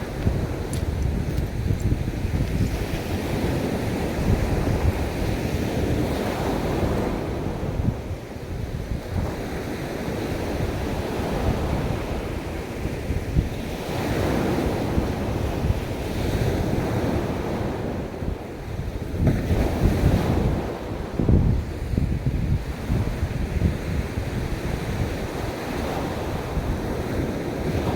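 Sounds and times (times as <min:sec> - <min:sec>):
ocean surf washing onto beach: 0:00.0 - 0:27.9
wind rumbling on microphone: 0:00.0 - 0:27.9.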